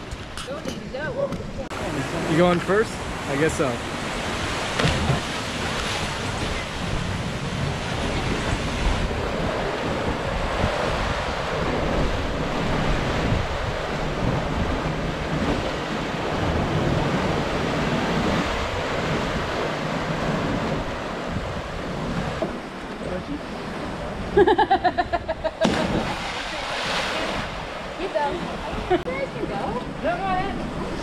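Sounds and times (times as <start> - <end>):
wind buffeting microphone: 0.0 - 31.0
surf breaking against rocks: 1.7 - 24.0, 25.5 - 31.0.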